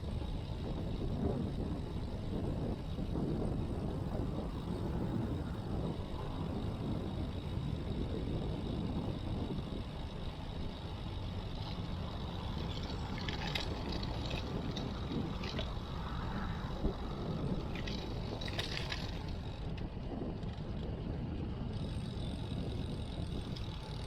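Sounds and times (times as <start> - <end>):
tyres on the road: 0.0 - 24.0
wind across camera: 0.0 - 24.0.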